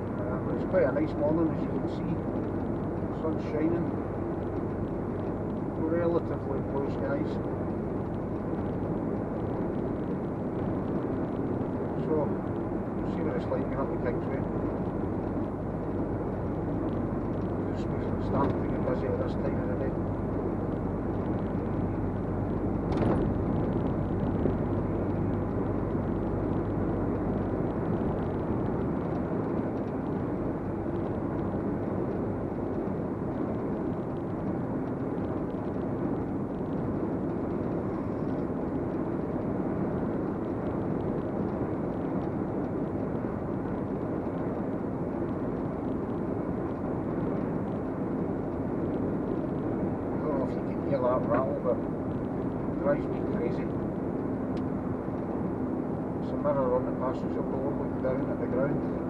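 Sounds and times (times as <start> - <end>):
engine and road drone: 0.0 - 59.0.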